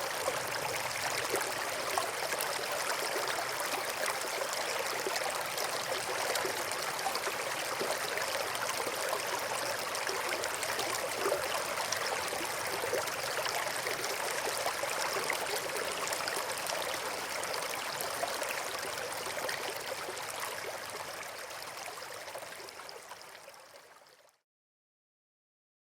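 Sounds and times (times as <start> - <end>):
river water babbling over rocks: 0.0 - 23.3.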